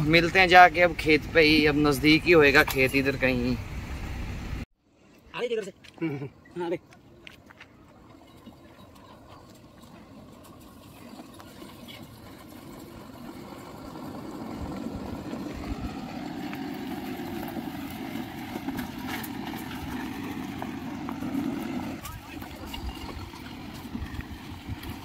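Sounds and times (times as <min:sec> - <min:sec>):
truck diesel engine approaching: 0:00.0 - 0:04.7, 0:07.8 - 0:25.0.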